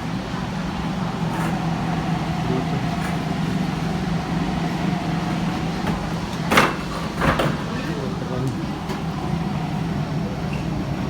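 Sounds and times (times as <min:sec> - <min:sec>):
vehicle running hum: 0:00.0 - 0:11.0.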